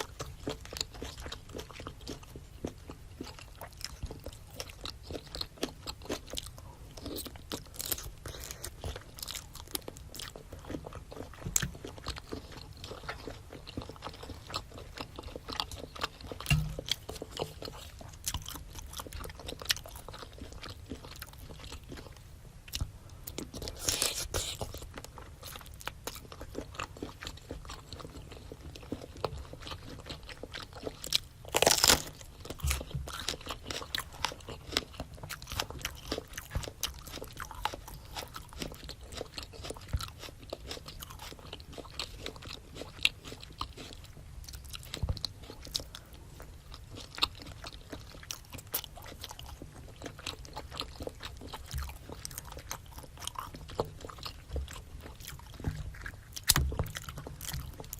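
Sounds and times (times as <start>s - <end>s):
chewing food wet crunches: 0.0s - 57.9s.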